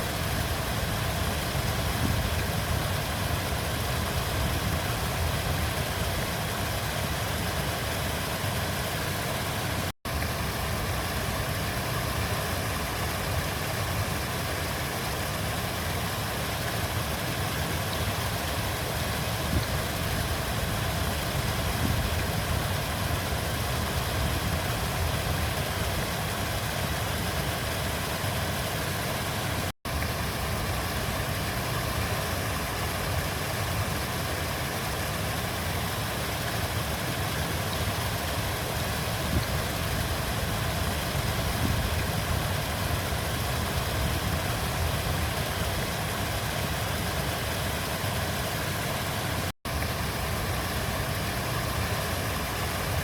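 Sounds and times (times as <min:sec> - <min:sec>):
flowing river water: 0:00.0 - 0:53.0.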